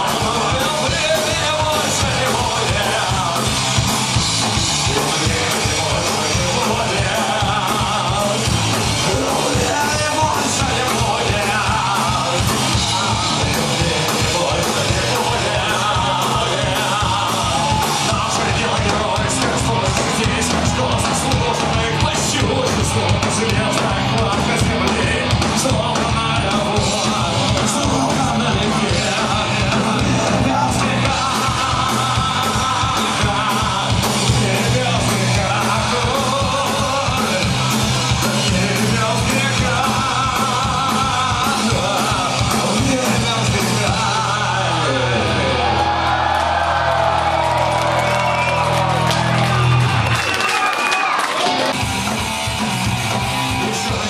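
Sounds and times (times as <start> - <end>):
distorted guitar: 0.0 - 50.4, 51.1 - 54.0
shouted singing: 0.0 - 51.8
fast drums: 0.0 - 54.0
punk rock band playing: 0.0 - 54.0.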